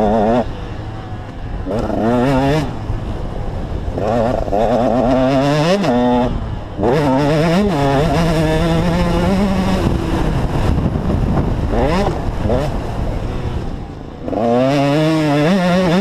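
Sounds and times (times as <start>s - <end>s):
motorcycle engine revving hard: 0.0s - 16.0s.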